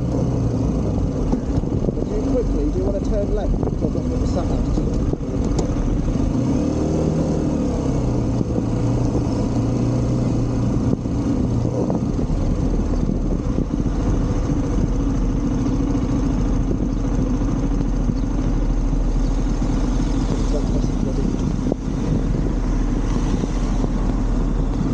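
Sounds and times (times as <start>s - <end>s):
motorcycle engine running: 0.0s - 24.9s
wind and road noise: 0.0s - 24.9s.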